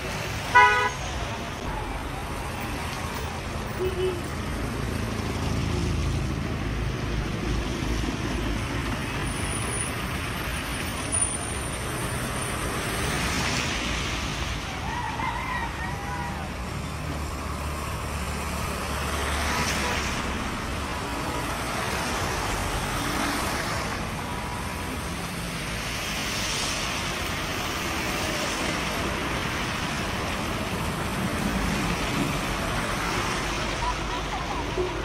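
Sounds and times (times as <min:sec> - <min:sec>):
tyres hissing on wet road: 0:00.0 - 0:35.0.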